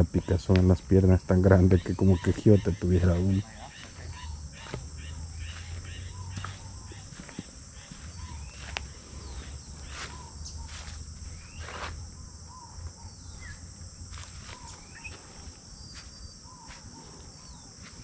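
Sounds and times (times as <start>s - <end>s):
insect trilling: 0.0s - 18.0s
bird chirps: 1.5s - 17.7s.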